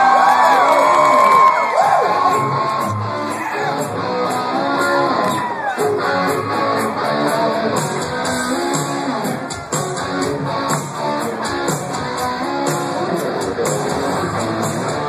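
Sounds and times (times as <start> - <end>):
live rock band playing: 2.0 - 15.0.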